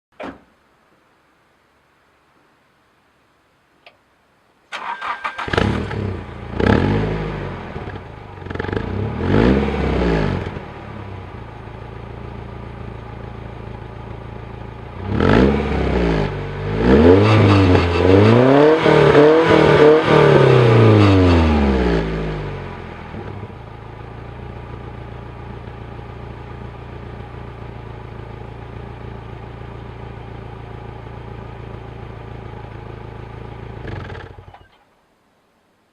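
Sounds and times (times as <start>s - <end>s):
car engine revving and idling: 5.3s - 34.6s.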